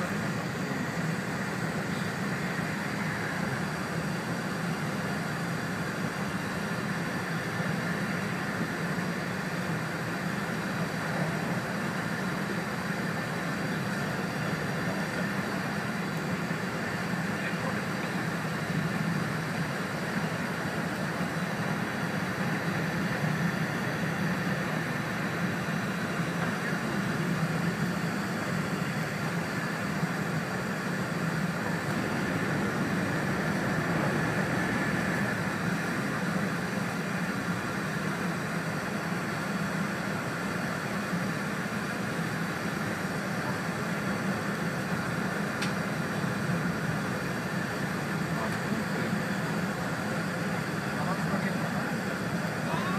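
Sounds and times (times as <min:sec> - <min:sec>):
train cabin running noise: 0:00.0 - 0:52.9.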